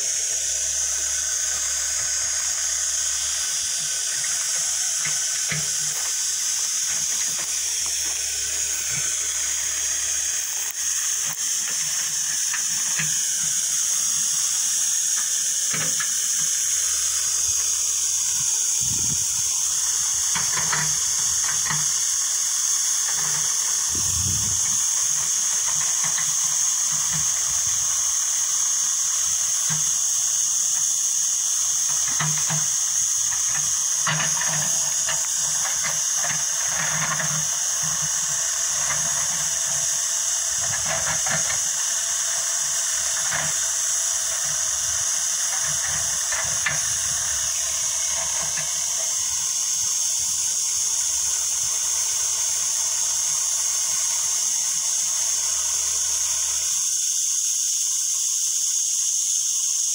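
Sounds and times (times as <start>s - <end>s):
distant backhoe engine: 0.0s - 30.9s, 31.5s - 56.8s
high-pitched hiss: 0.0s - 59.9s.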